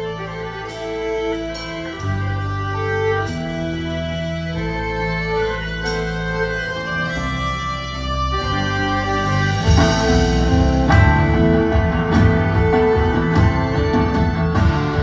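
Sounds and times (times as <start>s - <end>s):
bass line: 0.0s - 15.0s
held organ-like keyboard notes: 0.0s - 15.0s.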